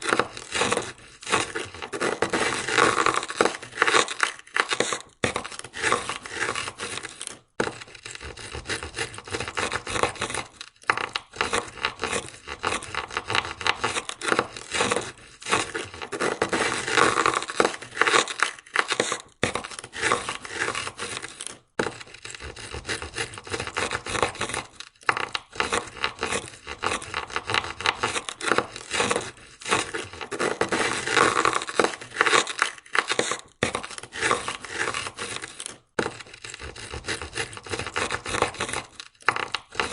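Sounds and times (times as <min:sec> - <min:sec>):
ice scraper on car window: 0:00.0 - 0:39.9.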